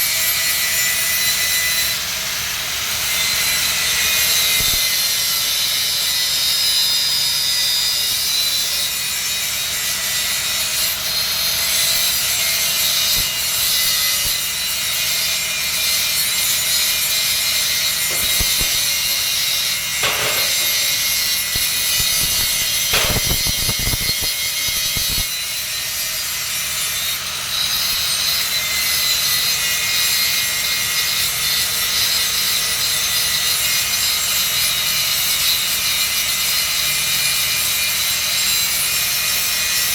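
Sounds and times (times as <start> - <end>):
arc welding hiss and crackle: 0.0 - 39.9.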